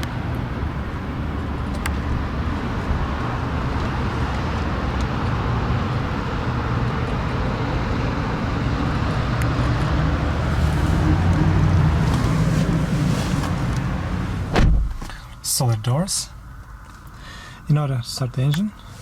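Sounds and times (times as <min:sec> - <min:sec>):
low vehicle rumble: 0:00.0 - 0:15.5.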